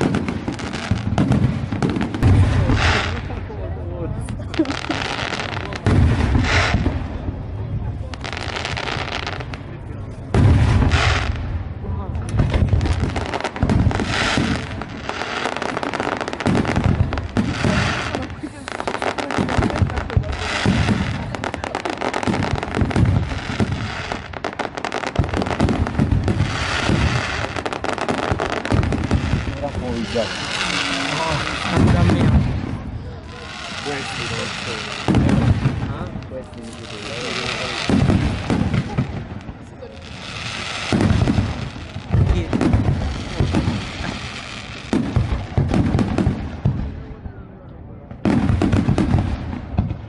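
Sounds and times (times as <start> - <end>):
firework bangs and crackles: 0.0 - 50.0.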